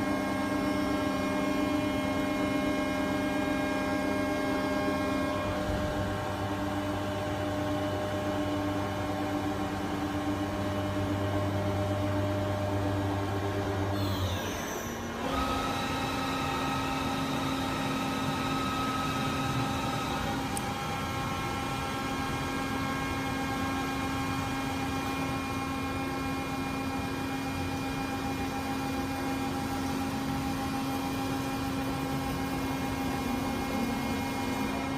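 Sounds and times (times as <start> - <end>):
machining center humming and whining: 0.0 - 34.9.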